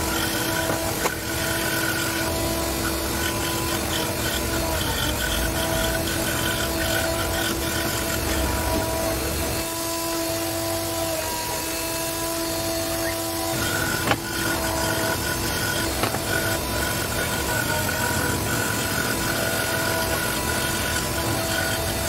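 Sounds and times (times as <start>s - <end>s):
scroll saw cutting: 0.0s - 22.0s.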